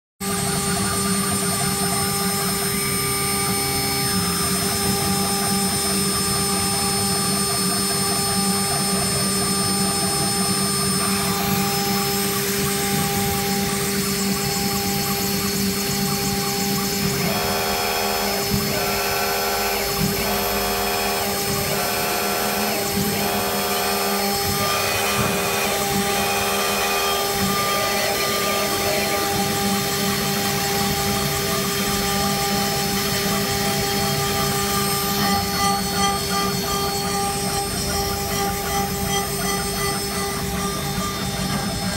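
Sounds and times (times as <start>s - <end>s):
router spindle whine cutting wood: 0.2s - 41.9s
pulsing high tones: 0.3s - 41.9s.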